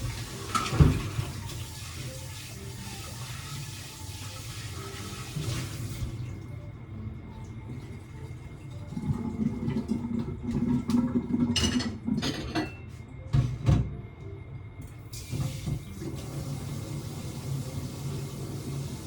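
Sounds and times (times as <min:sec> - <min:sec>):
water running at a sink: 0:00.0 - 0:12.5, 0:14.8 - 0:19.0.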